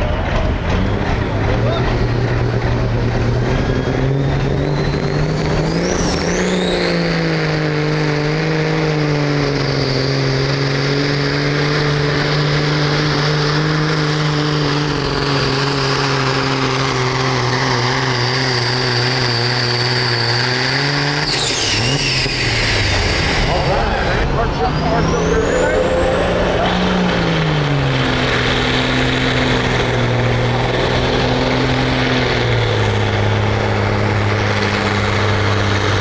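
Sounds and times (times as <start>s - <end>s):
truck engine revving hard: 0.0s - 36.0s.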